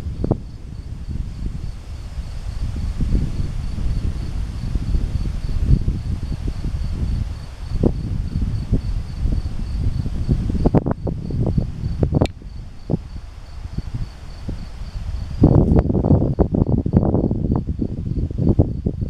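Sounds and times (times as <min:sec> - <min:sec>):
insect chirping: 0:00.0 - 0:19.0
wind buffeting microphone: 0:00.0 - 0:19.0.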